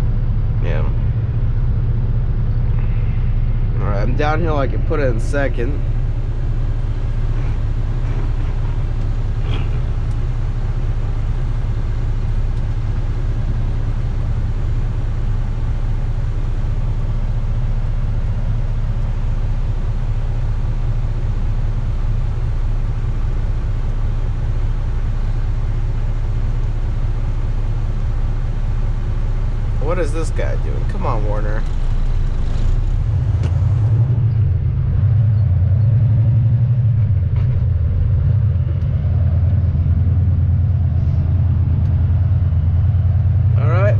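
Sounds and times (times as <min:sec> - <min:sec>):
truck diesel engine rumble: 0:00.0 - 0:43.9.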